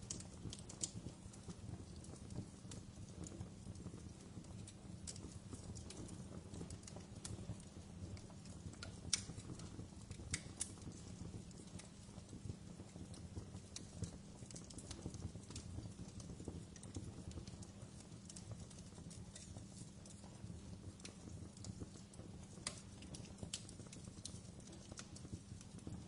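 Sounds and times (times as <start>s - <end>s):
fire flames rumbling: 0.0s - 26.0s
wood fire popping and snapping: 0.0s - 26.0s.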